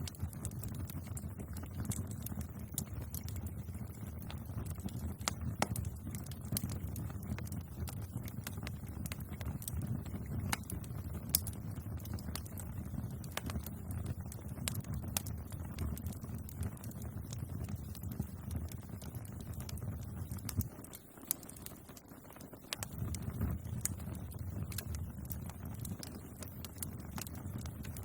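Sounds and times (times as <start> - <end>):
bonfire crackling: 0.0 - 28.0.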